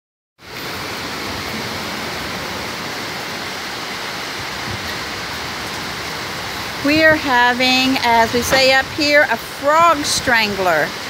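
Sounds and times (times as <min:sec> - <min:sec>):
heavy rain hissing: 0:00.4 - 0:11.0.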